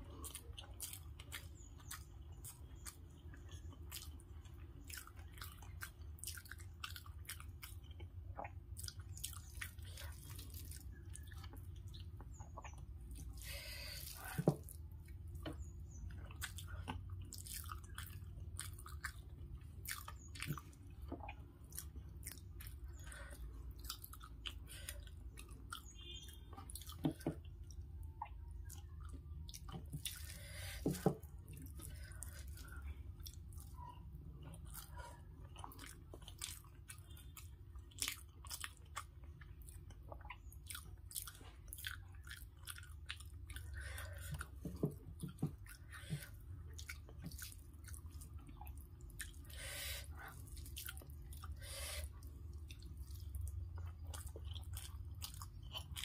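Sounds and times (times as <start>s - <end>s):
wet chewing smacks: 0.1s - 56.0s.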